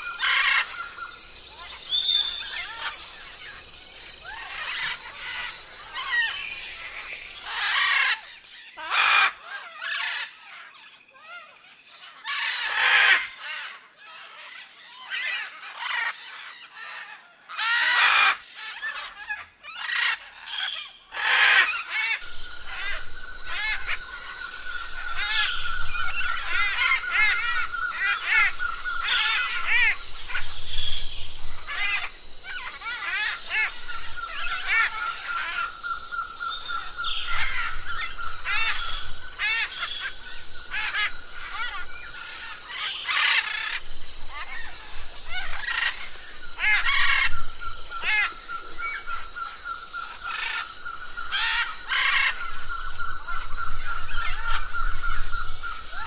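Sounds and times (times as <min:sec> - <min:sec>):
parrots squawking and chattering: 0:00.0 - 0:10.6, 0:12.1 - 0:50.7, 0:51.3 - 0:52.7.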